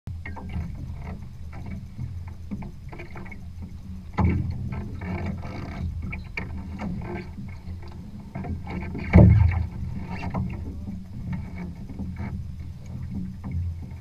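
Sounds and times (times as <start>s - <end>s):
steady low rumble: 0.1s - 14.0s
water slapping against hull: 0.1s - 14.0s.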